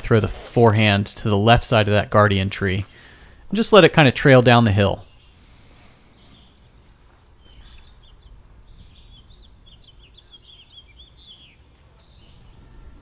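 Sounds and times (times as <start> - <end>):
faint outdoor background noise: 0.0 - 13.0
songbird chirping: 2.6 - 13.0.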